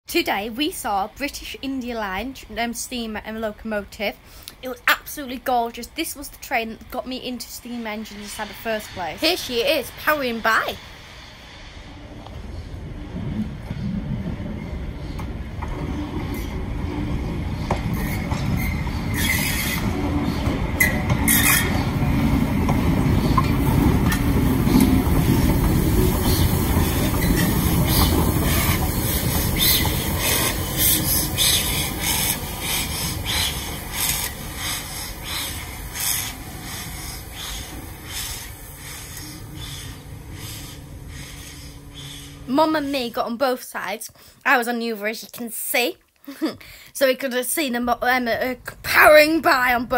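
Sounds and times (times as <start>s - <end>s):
train wheels rumbling on rail: 0.0s - 45.4s, 46.4s - 49.9s.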